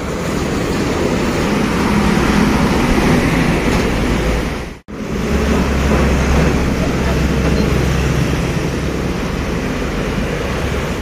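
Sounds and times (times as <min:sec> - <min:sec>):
rumble of engines and tyres: 0:00.0 - 0:11.0
trucks passing: 0:00.0 - 0:11.0.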